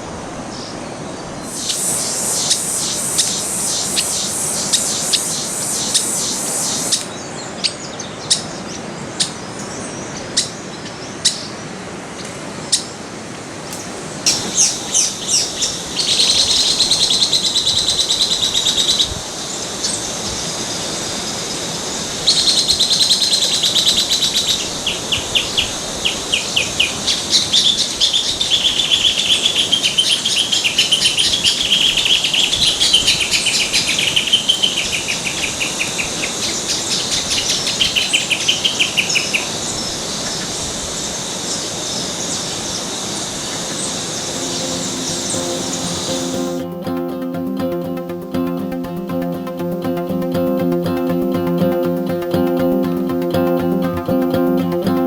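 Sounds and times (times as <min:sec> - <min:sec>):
steady background hiss: 0:00.0 - 0:55.0
birds chirping and trilling: 0:01.4 - 0:11.7, 0:13.6 - 0:40.6, 0:42.3 - 0:54.0.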